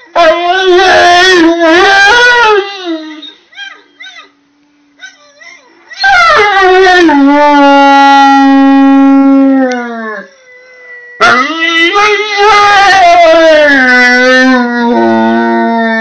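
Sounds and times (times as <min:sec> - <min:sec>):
dog howling: 0:00.1 - 0:04.3, 0:05.0 - 0:16.0.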